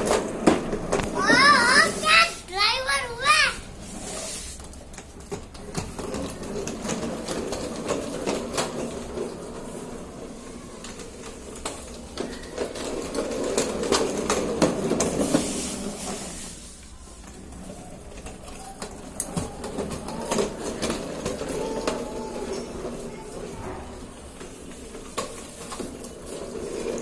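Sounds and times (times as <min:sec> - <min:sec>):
plastic wheels rolling on stone: 0:00.0 - 0:27.0.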